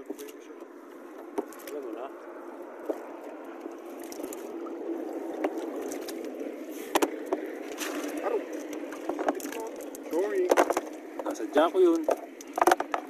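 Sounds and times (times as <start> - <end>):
water sloshing and dripping: 0.0 - 13.0.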